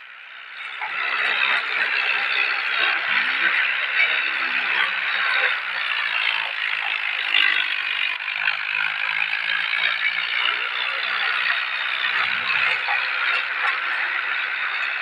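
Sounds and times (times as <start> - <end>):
tractor with rotavator clattering: 0.0 - 15.0.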